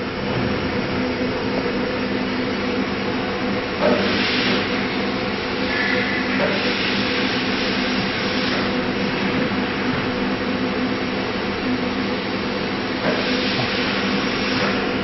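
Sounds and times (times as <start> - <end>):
shop machinery hiss and hum: 0.0 - 15.0.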